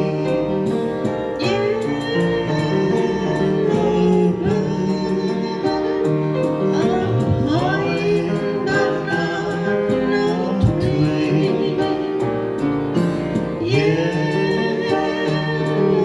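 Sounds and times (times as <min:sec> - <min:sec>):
electronic keyboard with beat: 0:00.0 - 0:16.0
person singing: 0:00.0 - 0:16.0.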